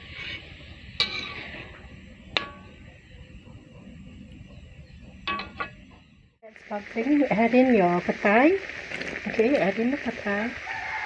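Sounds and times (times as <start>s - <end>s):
simmering sauce bubbling: 0.0s - 11.0s.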